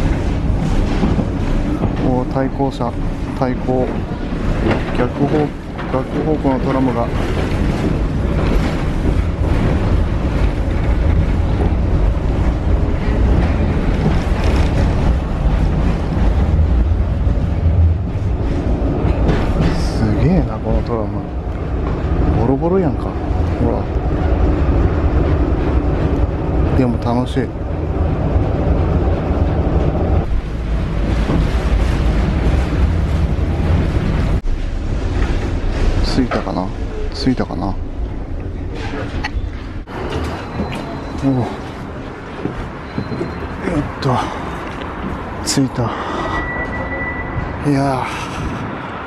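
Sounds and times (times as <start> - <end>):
tram wheels rumbling on rails: 0.0 - 49.0.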